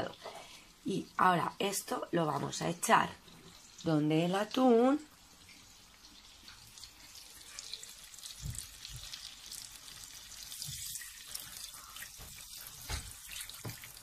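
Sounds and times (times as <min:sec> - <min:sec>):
liquid sizzling in a hot pan: 0:00.0 - 0:14.0.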